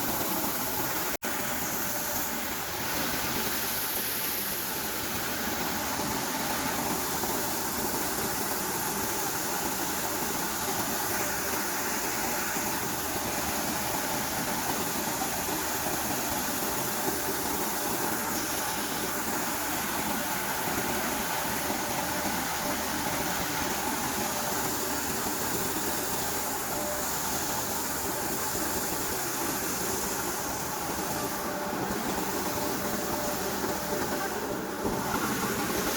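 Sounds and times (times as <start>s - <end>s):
shelling machine running: 0.0s - 35.9s.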